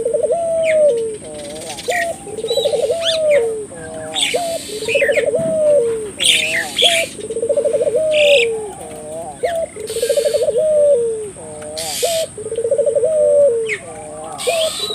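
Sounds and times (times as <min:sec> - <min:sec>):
dove cooing: 0:00.0 - 0:14.9
small birds chirping: 0:00.0 - 0:14.9.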